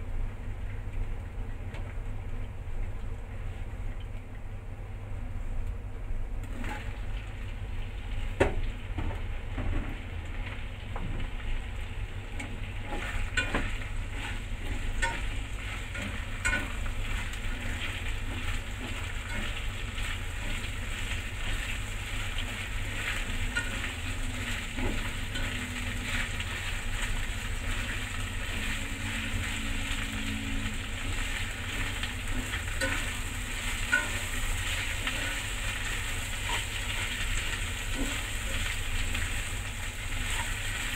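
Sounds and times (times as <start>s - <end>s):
vegetables sizzling in oil: 6.5s - 40.9s.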